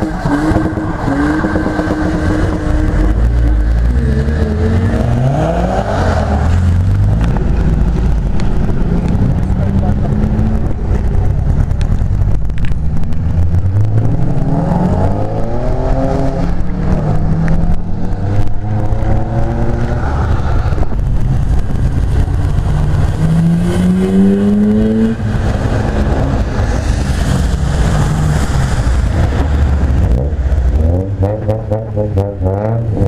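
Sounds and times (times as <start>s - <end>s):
car engine revving: 0.0s - 33.0s
low rumble of cars: 0.0s - 33.0s.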